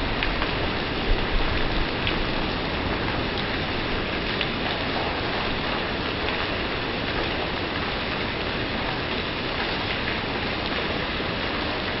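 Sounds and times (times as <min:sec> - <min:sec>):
rain on pavement: 0:00.0 - 0:12.0.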